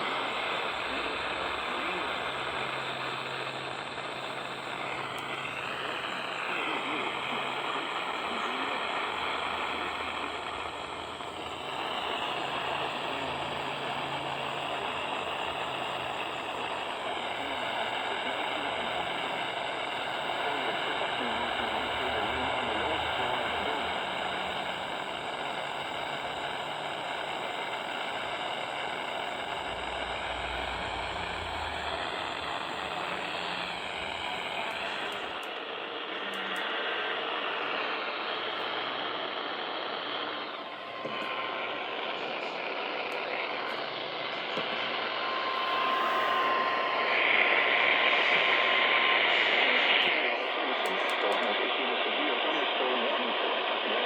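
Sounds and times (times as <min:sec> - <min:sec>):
faint steady tones: 0:00.0 - 0:54.0
radio static hiss: 0:00.0 - 0:54.0.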